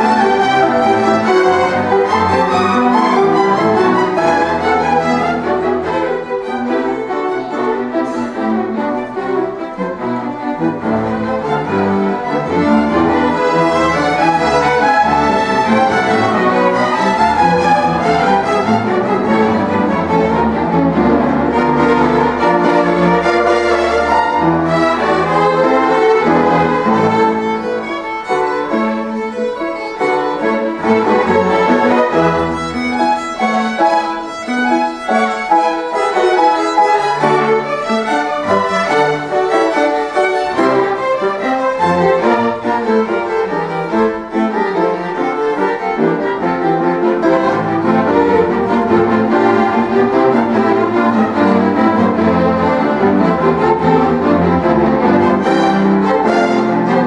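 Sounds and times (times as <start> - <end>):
cellos playing low line: 0.0 - 57.0
violins playing melody: 0.0 - 57.0.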